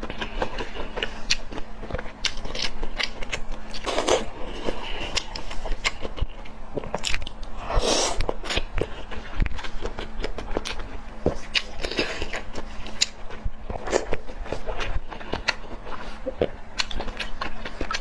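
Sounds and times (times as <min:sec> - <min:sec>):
biting and chewing fish cakes: 0:00.0 - 0:18.0.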